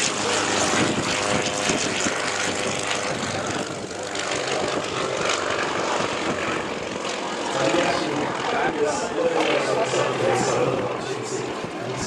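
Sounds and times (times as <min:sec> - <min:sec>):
propeller planes flying overhead: 0:00.0 - 0:12.0.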